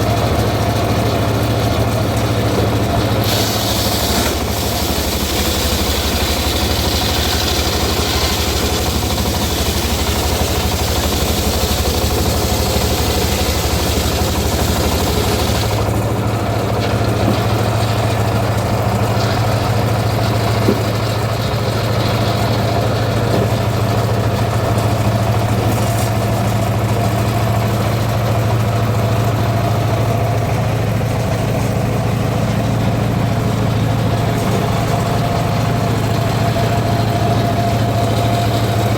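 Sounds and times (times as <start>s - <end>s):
circular saw engine running: 0.0s - 38.9s.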